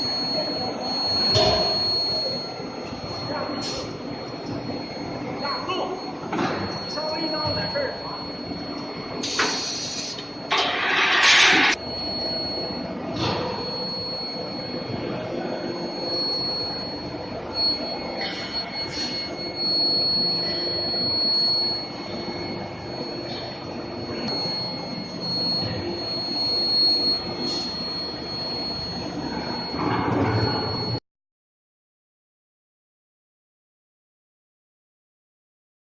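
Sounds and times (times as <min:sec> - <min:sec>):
furnace high-pitched whine: 0:00.0 - 0:31.0.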